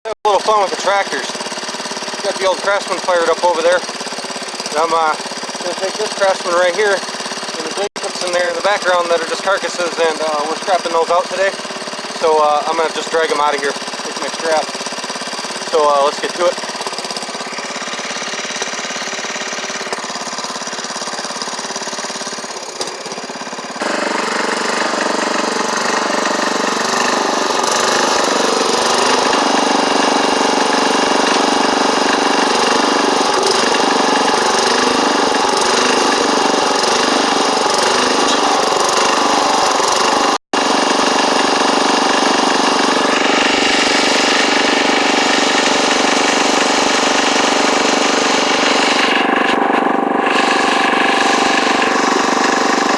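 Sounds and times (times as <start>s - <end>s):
lawn tractor engine running: 0.3s - 52.9s.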